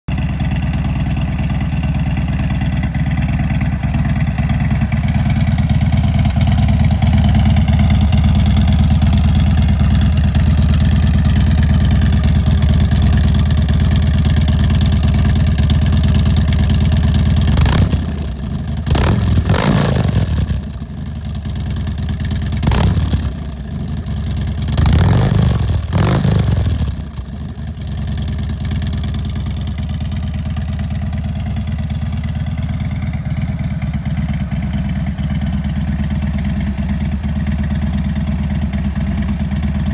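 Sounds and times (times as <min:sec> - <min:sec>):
motorcycle engine idling and revving: 0:00.1 - 0:39.9.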